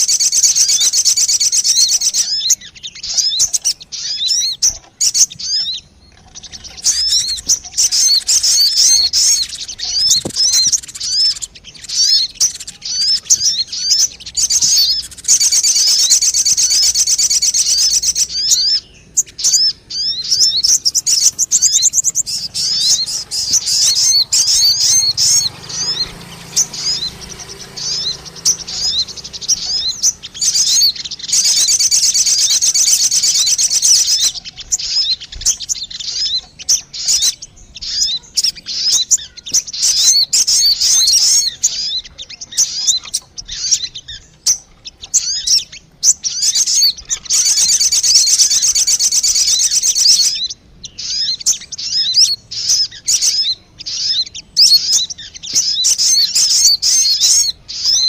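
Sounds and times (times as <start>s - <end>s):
high-pitched bird twittering: 0.0s - 58.0s.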